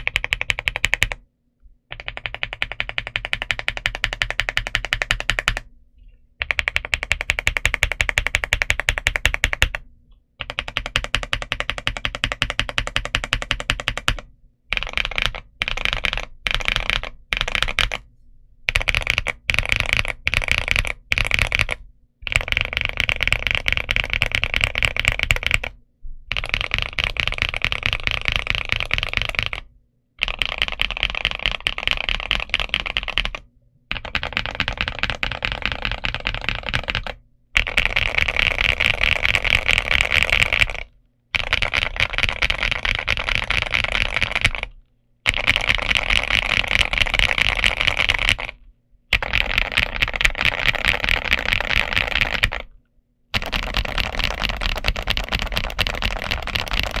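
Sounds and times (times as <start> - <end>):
mechanical keyboard typing: 0.0 - 1.2, 1.9 - 5.7, 6.4 - 9.8, 10.4 - 18.1, 18.7 - 52.8, 53.4 - 57.0.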